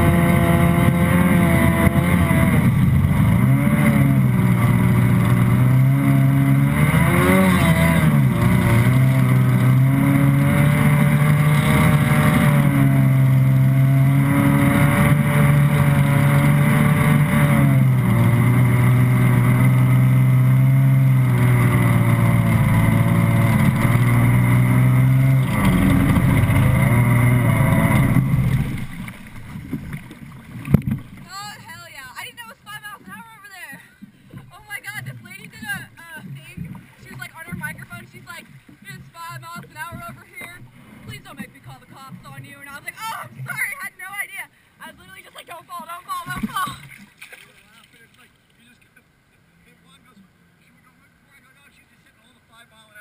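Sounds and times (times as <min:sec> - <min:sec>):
jet ski engine running: 0:00.0 - 0:47.4, 0:48.6 - 0:53.0
water rushing past hull: 0:00.0 - 0:53.0.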